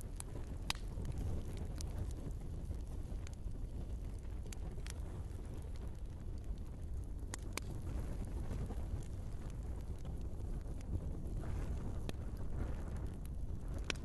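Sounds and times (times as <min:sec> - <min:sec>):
fire crackles and pops: 0:00.0 - 0:14.0
flames rushing: 0:00.0 - 0:14.0.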